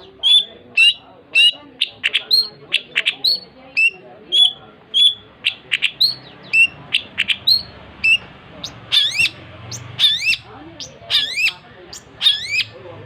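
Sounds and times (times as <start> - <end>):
bird singing sharp chirps: 0.0 - 12.8.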